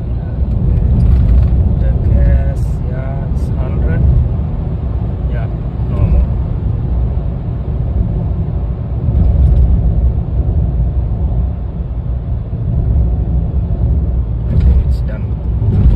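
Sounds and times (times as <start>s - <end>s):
road and wind rumble in car: 0.0s - 15.9s.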